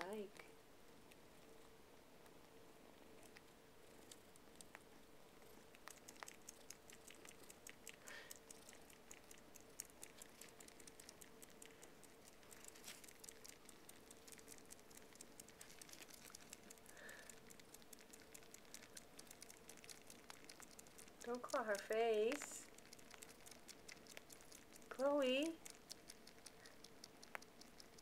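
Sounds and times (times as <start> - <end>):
faint steady hum: 0.0 - 28.0
kittens suckling wet clicks: 0.0 - 28.0.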